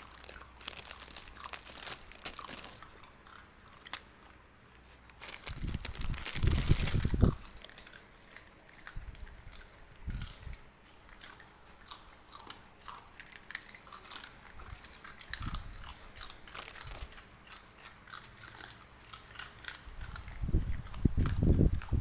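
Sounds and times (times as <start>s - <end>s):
puppies chewing: 0.0s - 22.0s.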